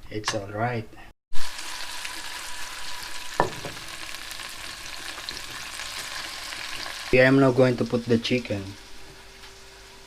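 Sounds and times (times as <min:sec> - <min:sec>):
garlic sizzling in frying pan: 0:01.3 - 0:10.0.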